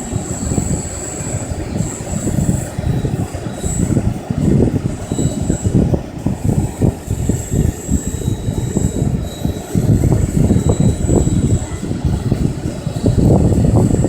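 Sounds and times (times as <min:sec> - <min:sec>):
high-pitched whine: 0:00.0 - 0:14.0
rotor wash buffeting microphone: 0:00.0 - 0:14.0.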